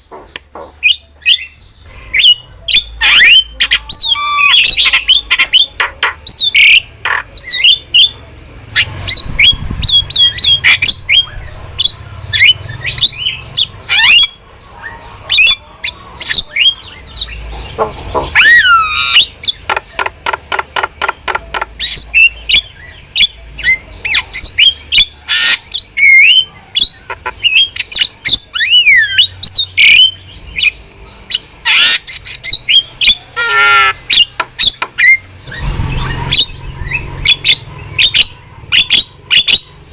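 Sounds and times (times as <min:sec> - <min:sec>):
starling chattering: 0:00.0 - 0:39.9.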